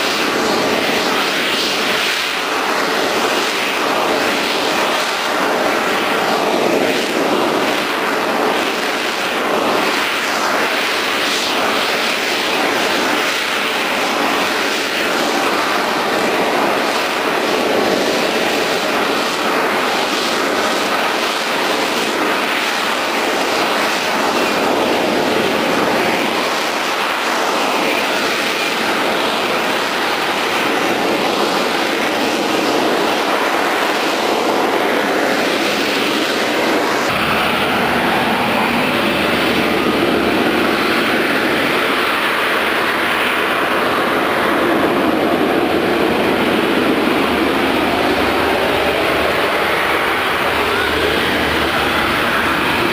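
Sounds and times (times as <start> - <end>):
military aircraft engine rushing: 0.0 - 52.9.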